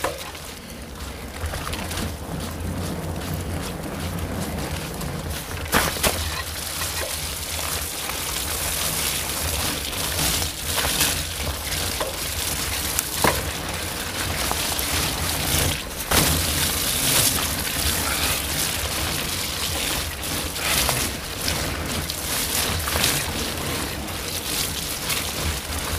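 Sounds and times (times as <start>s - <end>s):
bike knocks and rattles: 0.0s - 25.9s
tyres rolling over wet trail: 0.0s - 25.9s.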